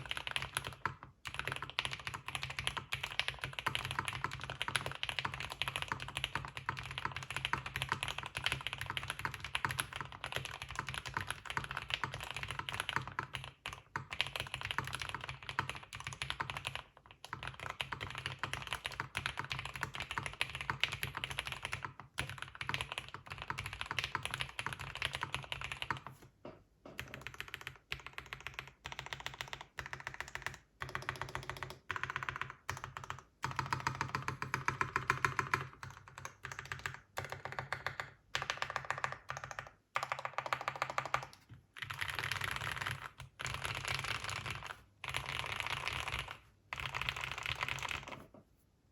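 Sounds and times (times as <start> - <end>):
fast mechanical keyboard typing: 0.0 - 26.2, 27.0 - 48.2.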